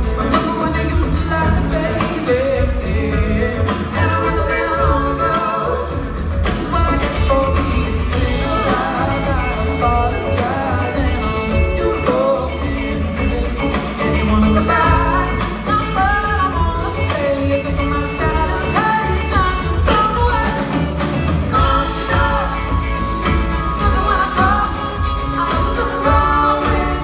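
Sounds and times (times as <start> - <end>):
drum kit: 0.0 - 27.0
electric guitar: 0.0 - 27.0
keyboards: 0.0 - 27.0
upright double bass: 0.0 - 27.0
woman singing: 0.1 - 27.0.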